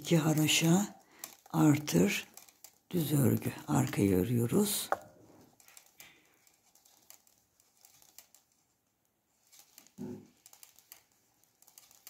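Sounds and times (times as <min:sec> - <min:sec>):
knitting needles clicking: 0:00.0 - 0:12.0.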